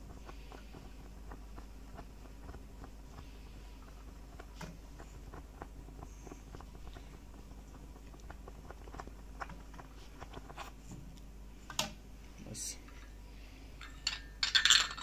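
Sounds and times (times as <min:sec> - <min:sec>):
steam wand bubbling in milk: 0:00.0 - 0:15.0.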